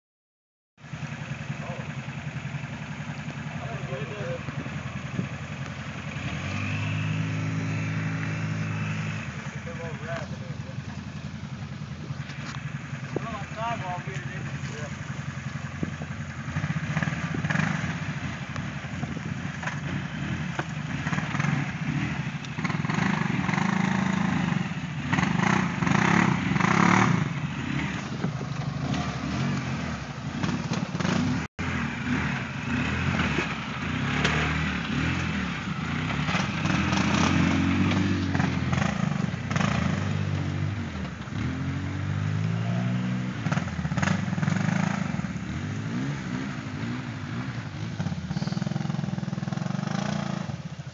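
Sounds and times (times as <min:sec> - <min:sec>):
atv engines revving: 0:00.8 - 0:50.9.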